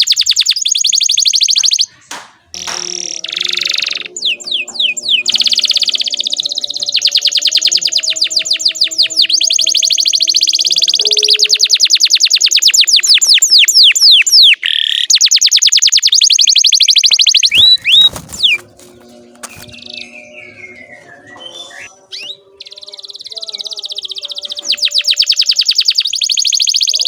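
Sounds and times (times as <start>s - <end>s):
canary singing trills: 0.0s - 27.0s.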